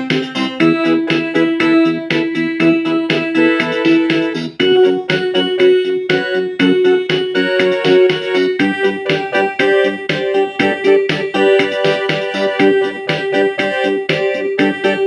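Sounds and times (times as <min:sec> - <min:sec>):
electric piano chords: 0:00.0 - 0:15.0.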